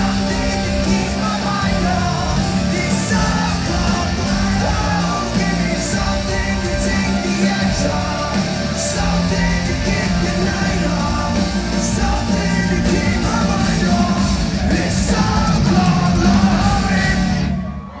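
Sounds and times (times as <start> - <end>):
live hard rock band: 0.0 - 18.0
person singing: 0.0 - 18.0.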